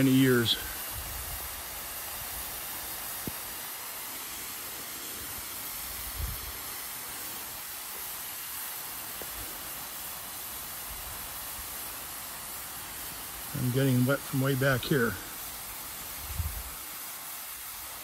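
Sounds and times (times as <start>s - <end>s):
lawn sprinkler spraying water: 0.0s - 18.0s.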